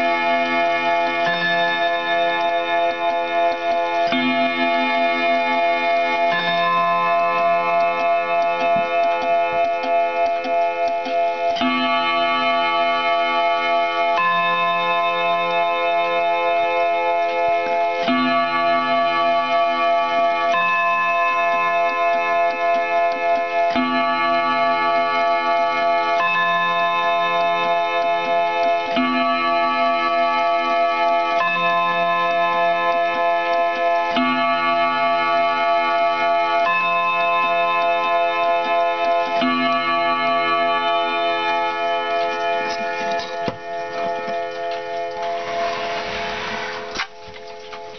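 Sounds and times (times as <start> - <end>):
mantel clock gongs ringing: 0.0 - 47.9.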